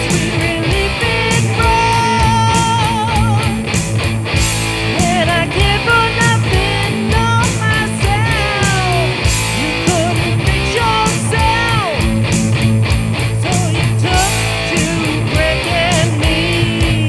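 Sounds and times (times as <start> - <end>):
bass guitar: 0.0 - 17.0
lead guitar bent notes: 0.0 - 17.0
steady drum beat: 0.0 - 17.0.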